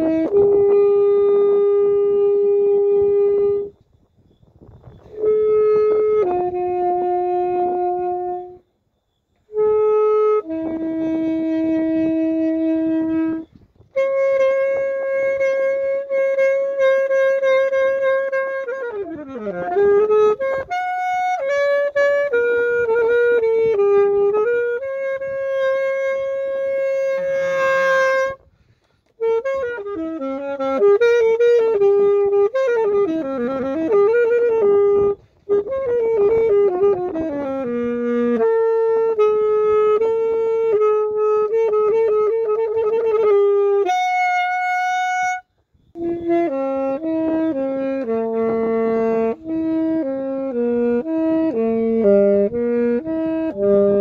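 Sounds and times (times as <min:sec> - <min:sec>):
saxophone slow melody: 0:00.0 - 0:54.0.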